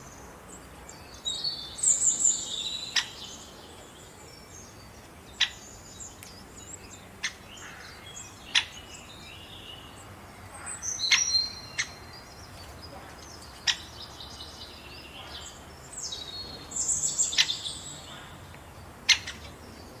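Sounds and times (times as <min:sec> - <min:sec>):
birds chirping and whistling: 0:00.9 - 0:18.4.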